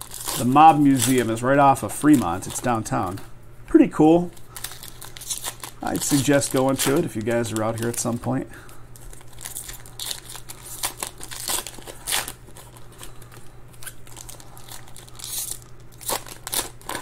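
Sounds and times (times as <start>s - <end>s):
foil wrapper crinkling and tearing: 0.0s - 3.2s, 4.3s - 17.0s.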